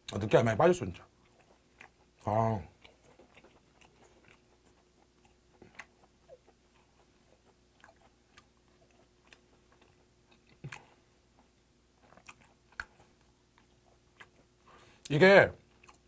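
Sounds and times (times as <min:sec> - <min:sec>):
chewing with mouth smacks: 0:00.0 - 0:16.0
faint steady hum: 0:00.0 - 0:16.0.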